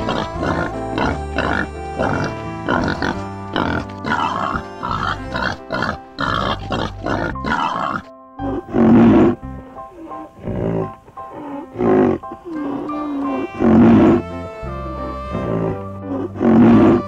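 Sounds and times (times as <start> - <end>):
boar grunting: 0.0 - 14.2, 15.4 - 17.0
background music: 0.0 - 17.0
rhino calls: 0.0 - 17.0.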